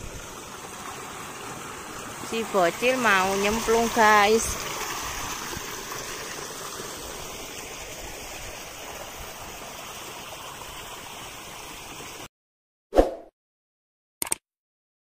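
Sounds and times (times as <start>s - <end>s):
water rushing along channel: 0.0s - 12.3s.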